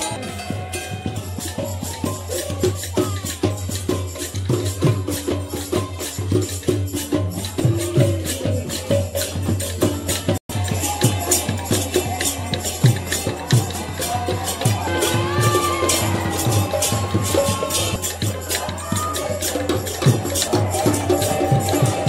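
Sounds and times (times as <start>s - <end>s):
barrel drum beaten fast: 0.0s - 22.0s
jangling metal percussion: 0.0s - 22.0s.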